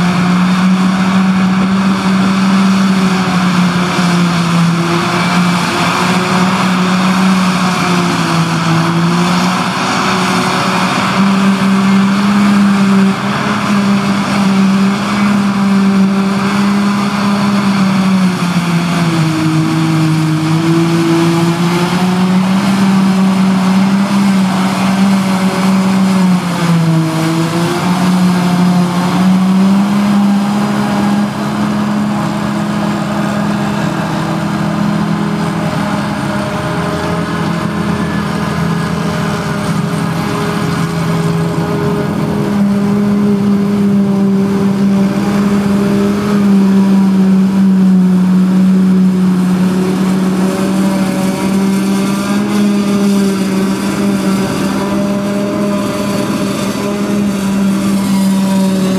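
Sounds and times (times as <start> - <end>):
forage harvester machine drone: 0.0 - 58.9.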